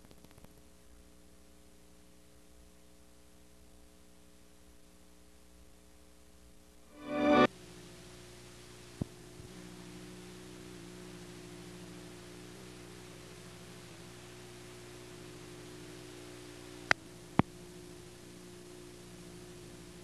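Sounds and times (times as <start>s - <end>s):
electrical hum with hiss: 0.0s - 20.0s.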